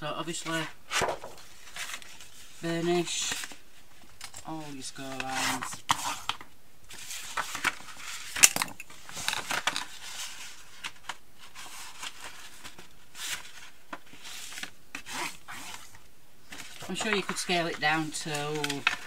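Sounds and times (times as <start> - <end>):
paper rustling and scraping: 0.3 - 19.0.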